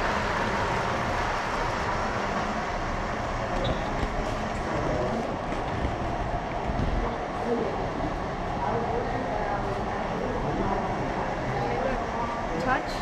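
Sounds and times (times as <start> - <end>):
miniature train running on track: 0.0 - 13.0.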